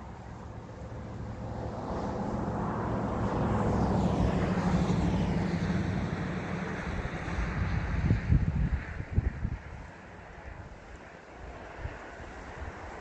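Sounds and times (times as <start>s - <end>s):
motor vehicle passing by: 0.0s - 13.0s.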